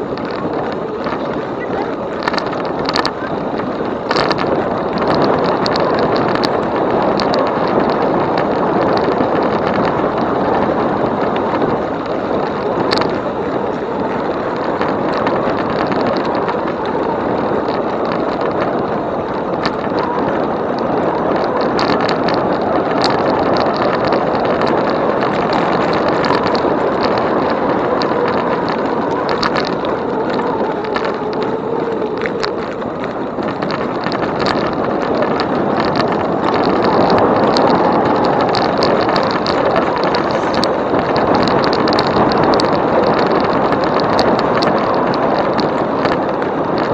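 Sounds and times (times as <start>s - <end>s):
bike tyre noise on trail: 0.0s - 46.9s
small clicks and rattles: 0.0s - 46.9s
wind noise: 0.0s - 46.9s.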